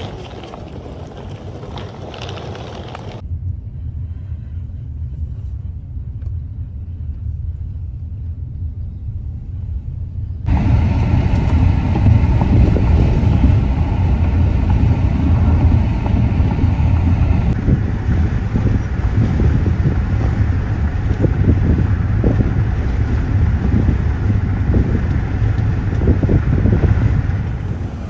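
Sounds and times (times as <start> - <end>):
car engine and tyre rumble: 0.0 - 28.0
road and wind hiss: 0.0 - 28.0.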